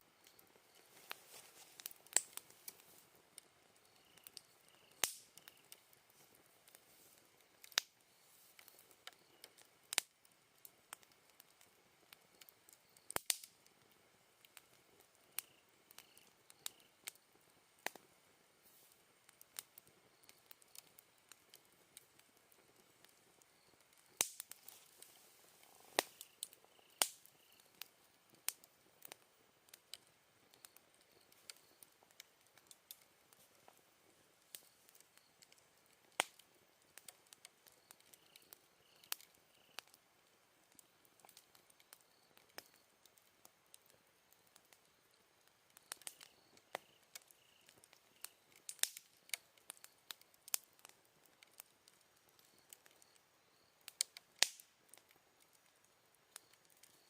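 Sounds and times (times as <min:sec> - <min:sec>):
insects chirping: 0:00.0 - 0:11.3, 0:14.4 - 0:43.0, 0:43.8 - 0:54.2, 0:55.2 - 0:57.0
campfire crackling and popping: 0:00.0 - 0:57.0.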